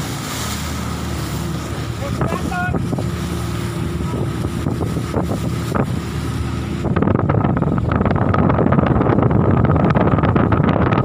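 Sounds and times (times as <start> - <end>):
boat engine droning: 0.0 - 11.0
water rushing past: 0.0 - 11.0
wind buffeting microphone: 0.0 - 11.0.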